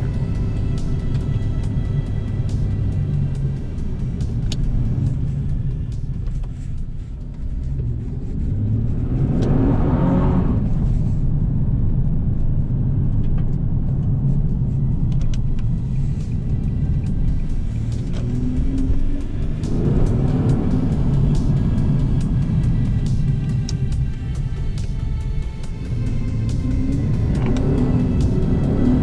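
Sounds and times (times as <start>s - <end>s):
car engine rumble: 0.0s - 29.0s
rush of noise: 4.2s - 29.0s.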